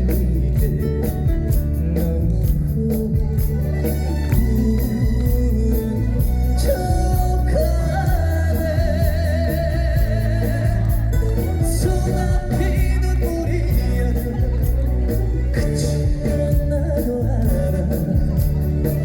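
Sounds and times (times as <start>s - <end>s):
band accompaniment: 0.0s - 19.0s
man singing with vibrato: 0.0s - 19.0s.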